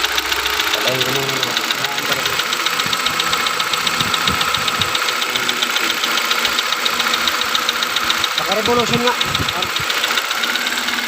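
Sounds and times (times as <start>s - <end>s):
car engine idling: 0.0s - 11.0s
ticking engine clatter: 0.0s - 11.0s.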